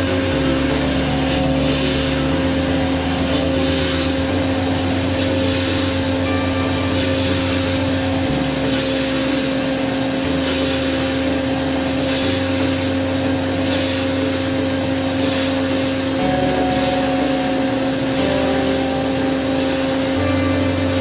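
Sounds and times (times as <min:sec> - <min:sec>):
continuous cutting noise: 0:00.0 - 0:21.0
low machine hum: 0:00.0 - 0:21.0
milling machine spindle whine: 0:00.0 - 0:21.0.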